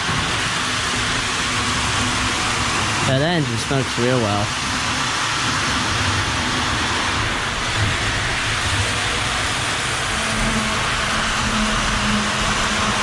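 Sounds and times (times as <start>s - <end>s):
model train whirring hiss: 0.0s - 13.0s.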